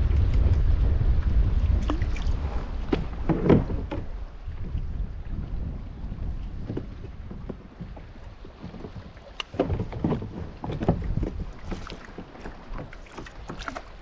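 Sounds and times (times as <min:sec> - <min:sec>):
low wind rumble on microphone: 0:00.0 - 0:14.0
water splashing around kayak: 0:00.0 - 0:14.0.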